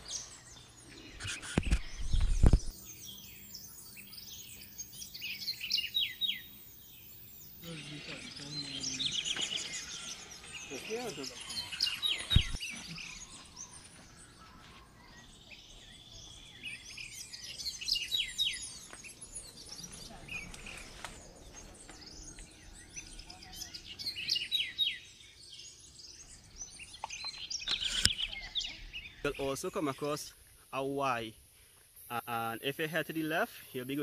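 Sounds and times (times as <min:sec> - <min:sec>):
birds chirping and calling: 0:00.0 - 0:31.2.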